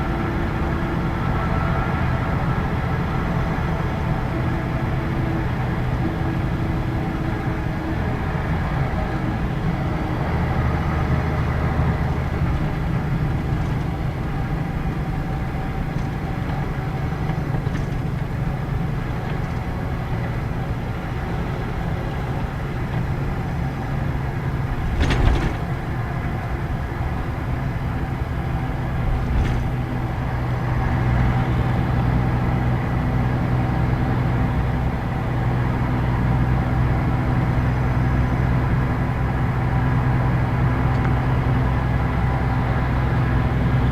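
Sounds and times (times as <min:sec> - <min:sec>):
diesel bus engine running: 0:00.0 - 0:43.9.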